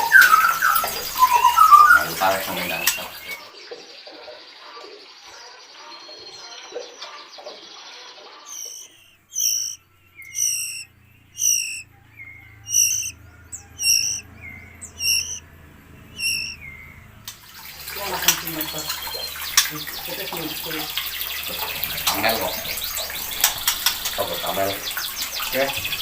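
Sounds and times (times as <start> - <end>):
songbird calling: 0.0 - 3.6, 6.0 - 26.0.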